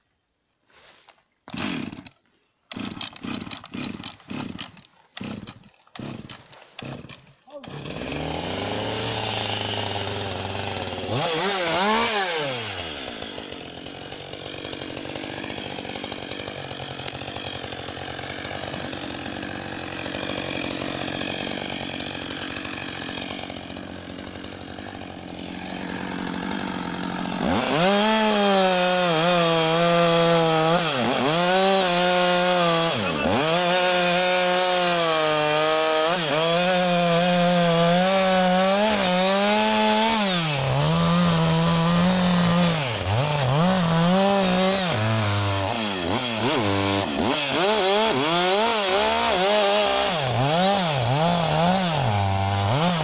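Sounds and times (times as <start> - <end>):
chainsaw cutting wood: 0.7 - 53.0.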